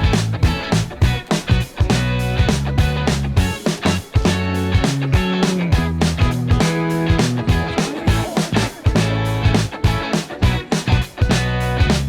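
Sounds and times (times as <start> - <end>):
upbeat rock funk music: 0.0 - 12.0.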